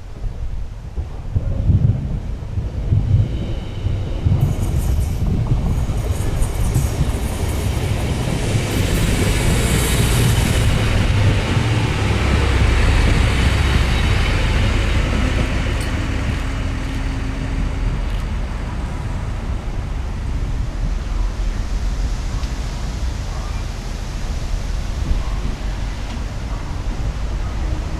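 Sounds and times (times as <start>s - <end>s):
diesel train passing: 2.2s - 27.9s.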